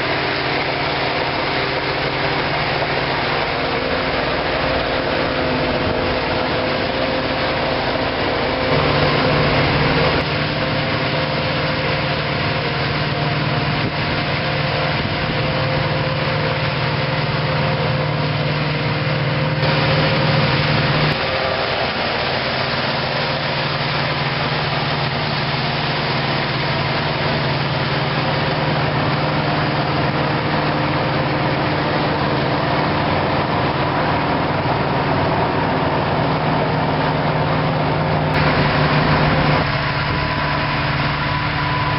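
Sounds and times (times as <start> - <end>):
farm machinery engines running: 0.0 - 41.9.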